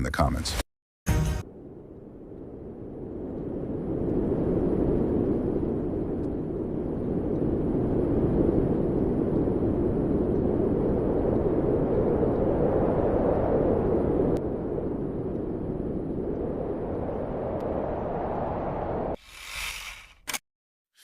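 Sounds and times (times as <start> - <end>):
strong wind on microphone: 1.4 - 19.5.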